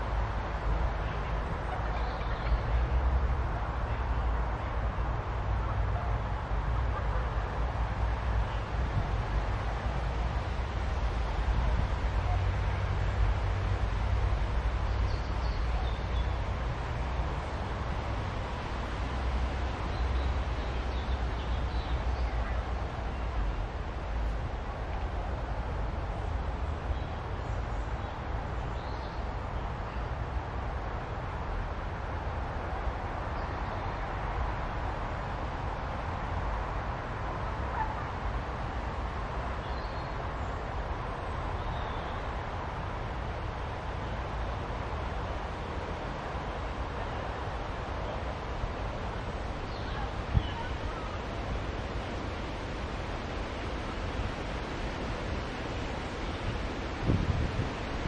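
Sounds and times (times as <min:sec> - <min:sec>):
continuous low rumble: 0:00.0 - 0:58.0.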